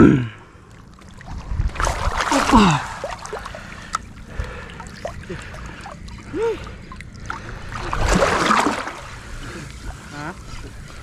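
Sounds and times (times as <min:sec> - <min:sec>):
water lapping and sloshing: 0:00.4 - 0:11.0.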